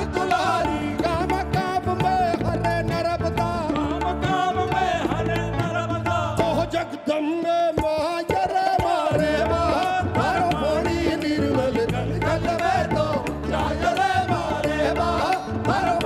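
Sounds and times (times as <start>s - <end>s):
man singing: 0.0s - 16.0s.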